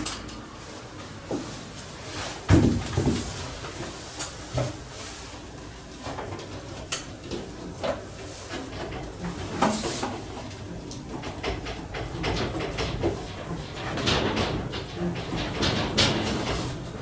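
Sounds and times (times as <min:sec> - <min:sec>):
scraping rustle: 0:00.5 - 0:17.0.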